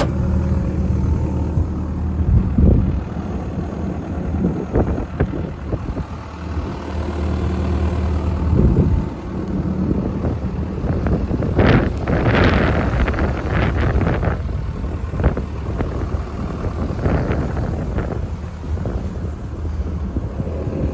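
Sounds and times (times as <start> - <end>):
excavator diesel engine idling: 0.0 - 20.9.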